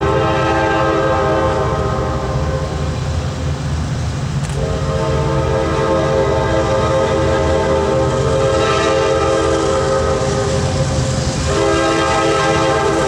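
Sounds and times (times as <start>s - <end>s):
locomotive air horn blowing: 0.0s - 3.0s, 4.5s - 13.0s
low rumble of passing train: 0.0s - 13.0s.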